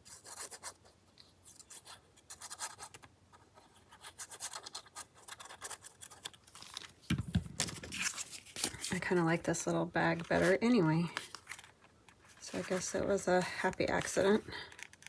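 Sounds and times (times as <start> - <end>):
paper scratching and rubbing: 0.0 - 6.8, 7.6 - 9.3, 10.1 - 15.0.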